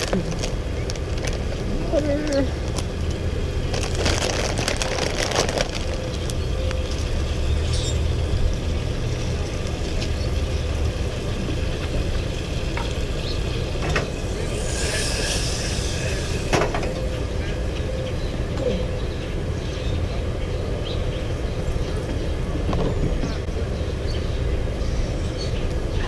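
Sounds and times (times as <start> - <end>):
camp stove low rumble: 0.0 - 26.0.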